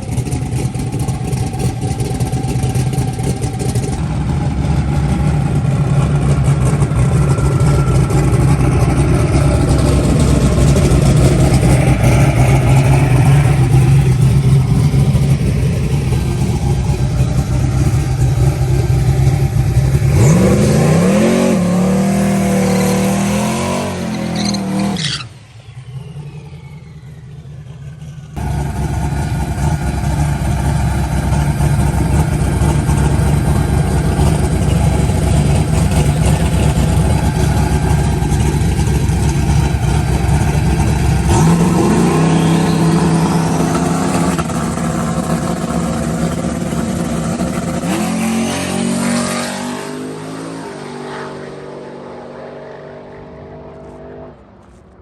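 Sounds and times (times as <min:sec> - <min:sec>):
loud vee eight engine revving: 0:01.6 - 0:27.4, 0:28.4 - 0:53.8.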